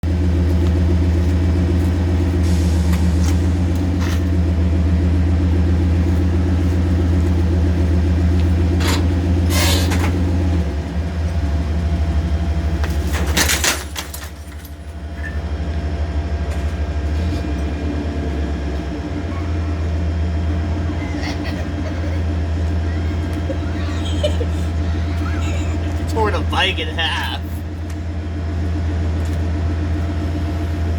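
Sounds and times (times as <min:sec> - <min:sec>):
pickup truck engine drone: 0:00.0 - 0:30.9.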